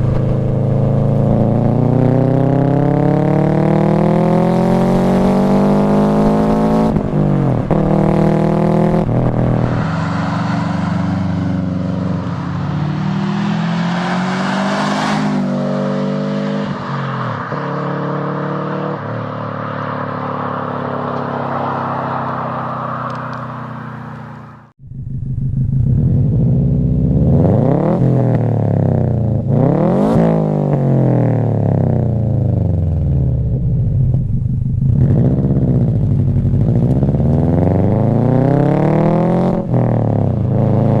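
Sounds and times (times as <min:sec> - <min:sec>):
car exhaust accelerating past: 0:00.0 - 0:41.0.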